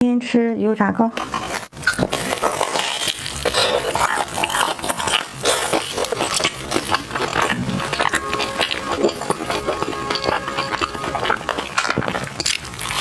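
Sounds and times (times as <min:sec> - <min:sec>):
chewing sticky rice: 0:01.2 - 0:13.0.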